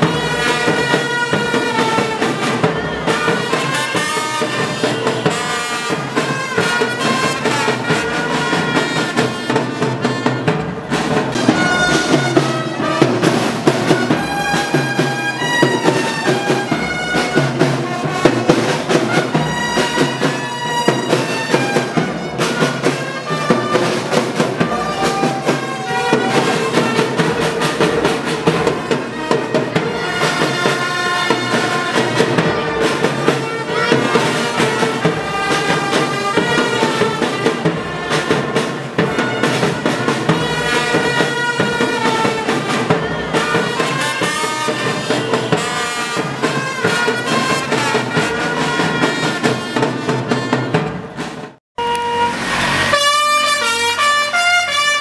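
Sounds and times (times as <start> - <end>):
marching brass band: 0.0 - 55.0.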